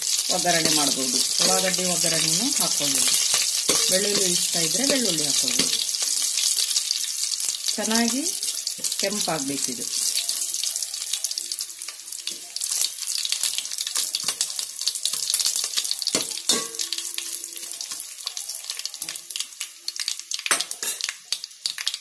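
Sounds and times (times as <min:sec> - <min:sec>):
hot oil sizzling and crackling: 0:00.0 - 0:22.0.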